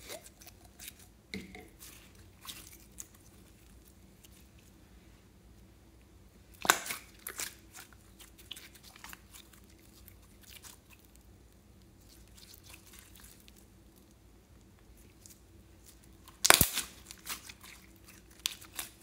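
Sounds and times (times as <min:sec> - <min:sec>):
sticky slime crackling: 0:00.0 - 0:04.7, 0:06.5 - 0:19.0.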